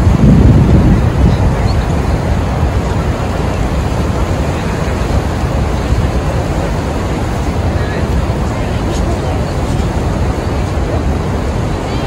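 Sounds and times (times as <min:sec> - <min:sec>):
rough water: 0:00.0 - 0:12.0
wind: 0:00.0 - 0:12.0
wind buffeting microphone: 0:00.0 - 0:12.0.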